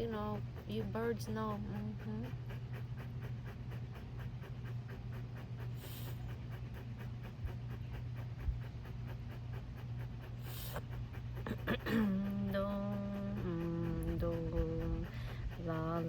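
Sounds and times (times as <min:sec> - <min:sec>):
dog panting: 0:00.0 - 0:16.0
low steady hum: 0:00.0 - 0:16.0.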